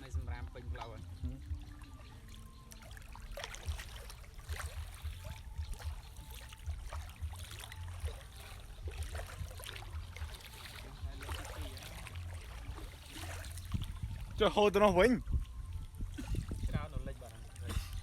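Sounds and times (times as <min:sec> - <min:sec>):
low rumble on microphone: 0:00.0 - 0:02.4, 0:03.3 - 0:18.0
floodwater splashing and trickling: 0:00.0 - 0:18.0.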